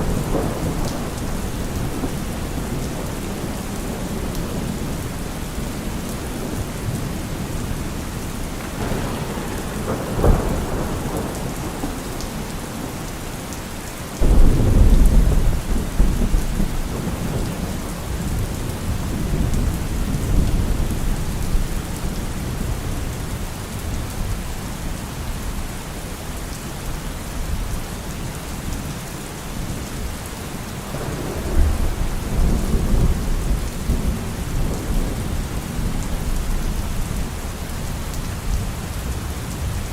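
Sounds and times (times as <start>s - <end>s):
rolling thunder: 0.0s - 24.0s, 30.7s - 39.9s
steady rain: 0.0s - 39.9s.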